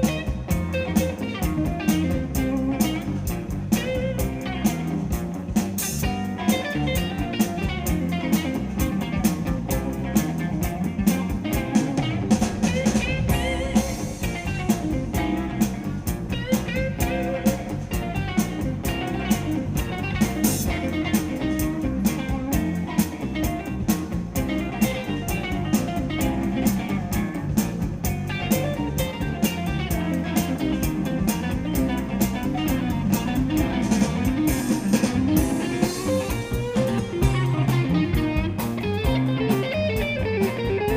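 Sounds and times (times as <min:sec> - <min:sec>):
drum kit steady beat: 0:00.0 - 0:40.9
electric guitar with bent notes: 0:00.0 - 0:40.9.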